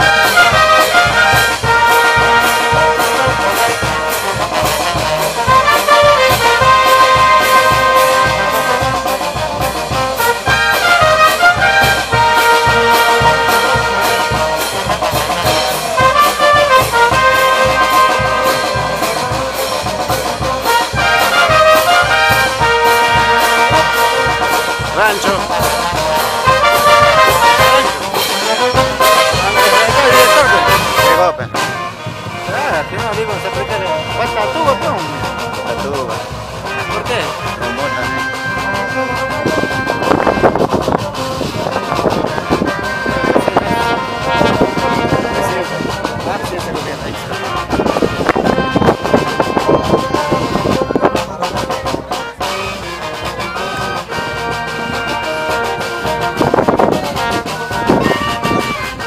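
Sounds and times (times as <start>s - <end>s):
bass drum and snare drum beat: 0.0s - 59.0s
sousaphones: 0.0s - 59.0s
trumpets and trombones: 0.0s - 59.0s.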